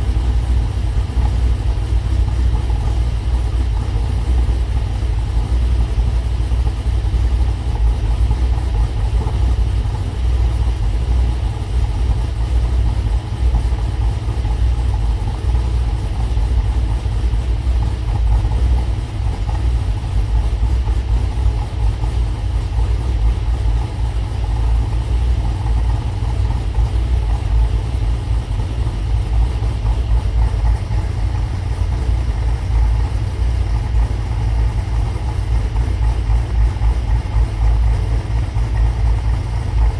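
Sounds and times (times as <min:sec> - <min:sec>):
car engine idling with deep exhaust: 0:00.0 - 0:39.9.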